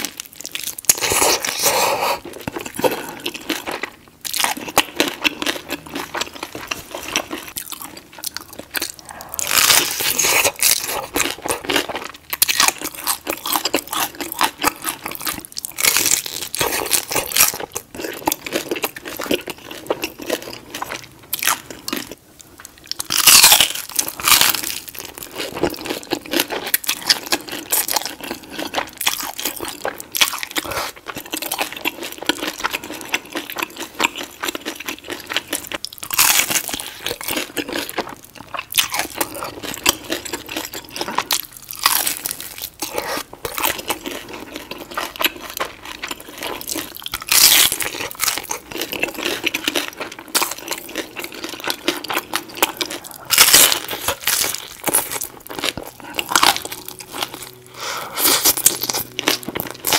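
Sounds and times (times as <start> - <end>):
chewing: 0.0 - 59.9
crunching bites of tacos: 0.0 - 59.9.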